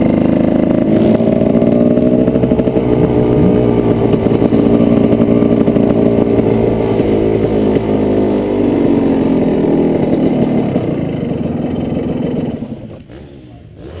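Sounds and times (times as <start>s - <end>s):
motorcycle two-stroke engine running: 0.0s - 14.0s.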